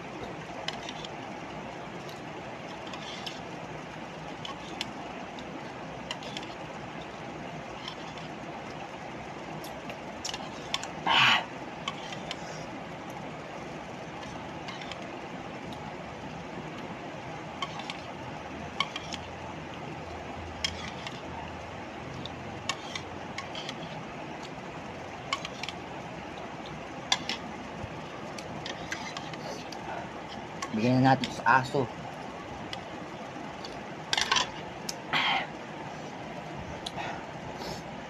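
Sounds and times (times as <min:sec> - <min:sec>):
background hum: 0:00.0 - 0:38.0.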